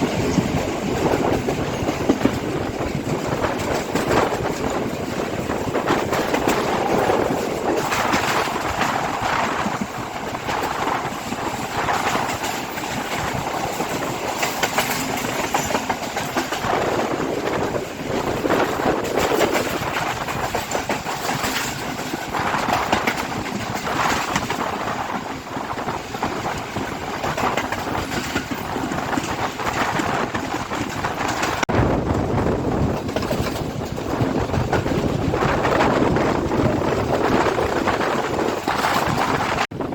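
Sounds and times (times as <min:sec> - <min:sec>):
train wheels rolling: 0:00.0 - 0:39.9
wheels clattering over rail joints: 0:00.0 - 0:39.9.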